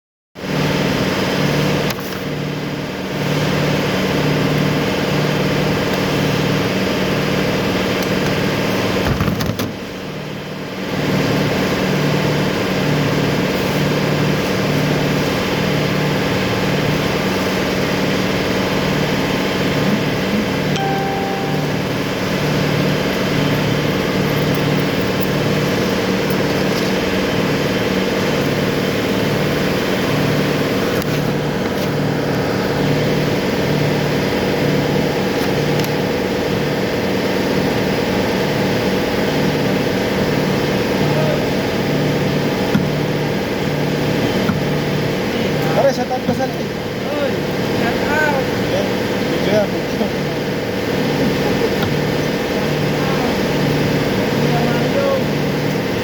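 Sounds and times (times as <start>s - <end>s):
engine running with low throb: 0.4s - 56.0s.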